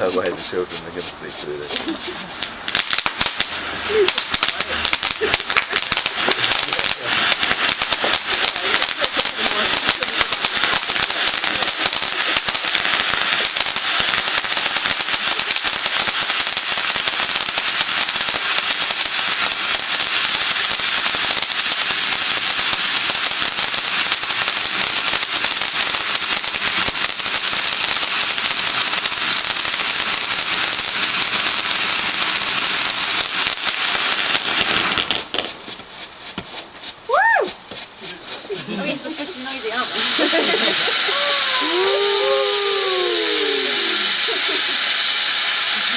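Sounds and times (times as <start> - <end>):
fireworks crackling: 0.0 - 45.9.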